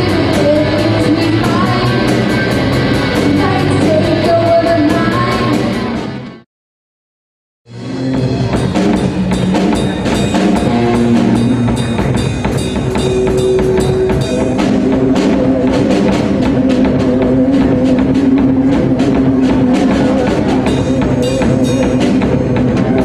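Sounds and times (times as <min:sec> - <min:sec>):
rock band playing: 0:00.0 - 0:06.4, 0:07.7 - 0:23.0.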